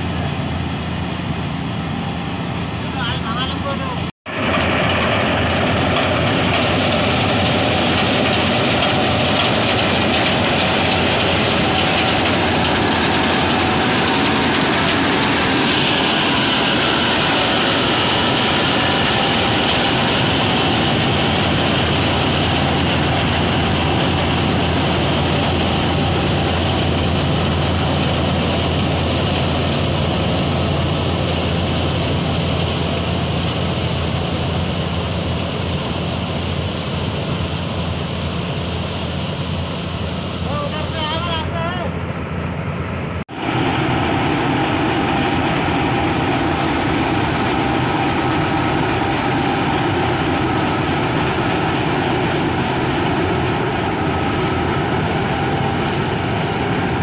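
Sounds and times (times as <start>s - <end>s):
combine harvester machinery din: 0.0s - 57.0s.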